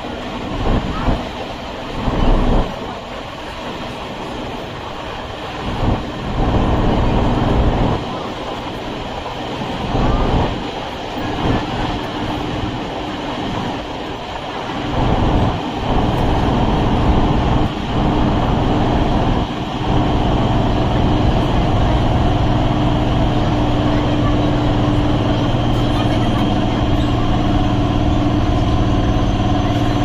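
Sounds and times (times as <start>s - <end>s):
constant train hum: 0.0s - 30.0s
electric train rumbling on track: 0.0s - 30.0s.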